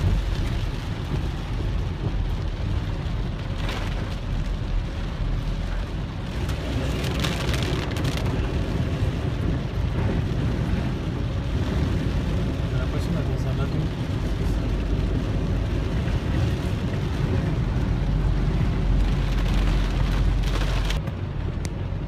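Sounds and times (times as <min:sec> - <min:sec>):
car tyres on flooded road: 0:00.0 - 0:22.0
heavy rain on a car: 0:00.0 - 0:22.0.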